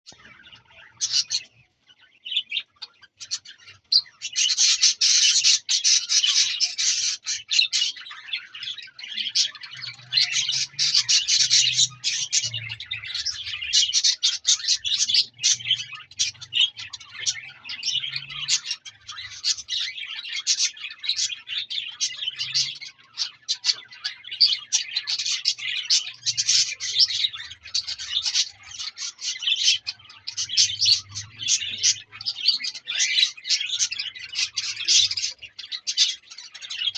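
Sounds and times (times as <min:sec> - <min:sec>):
parrots chirping and chattering: 0:00.1 - 0:36.9.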